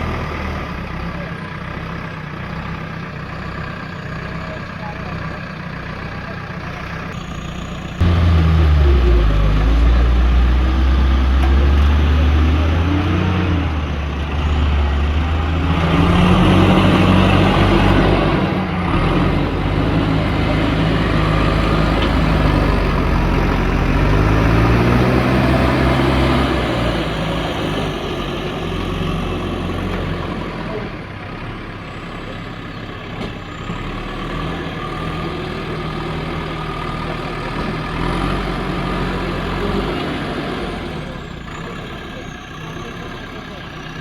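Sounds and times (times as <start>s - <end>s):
diesel engine revving under load: 0.0s - 2.8s, 3.4s - 44.0s.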